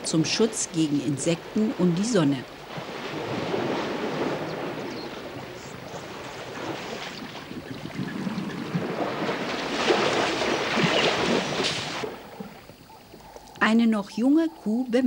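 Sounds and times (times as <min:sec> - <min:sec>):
elephants splashing in water: 0:00.0 - 0:13.2.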